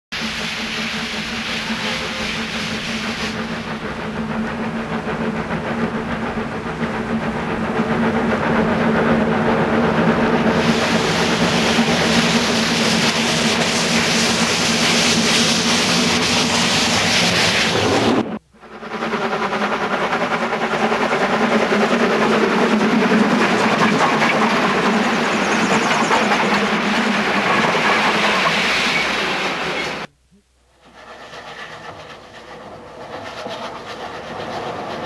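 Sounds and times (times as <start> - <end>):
steam locomotives hissing: 0.1 - 18.4, 19.1 - 35.0.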